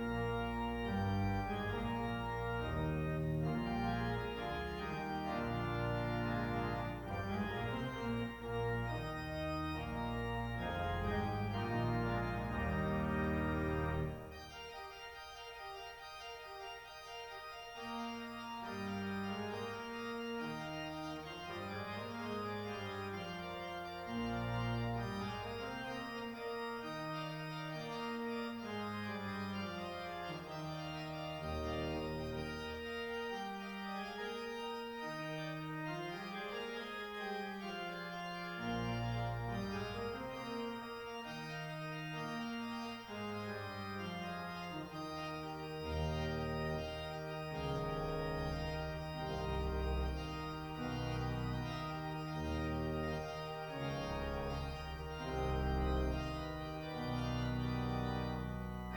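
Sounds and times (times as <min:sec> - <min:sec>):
deep organ bass notes: 0:00.0 - 0:14.7, 0:17.8 - 0:58.9
organ playing slow chords: 0:00.0 - 0:58.9.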